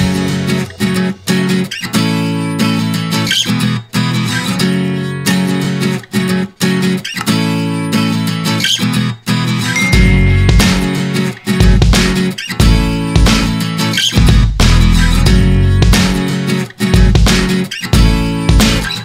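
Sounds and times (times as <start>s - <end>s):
strummed acoustic guitar music: 0.0s - 19.0s.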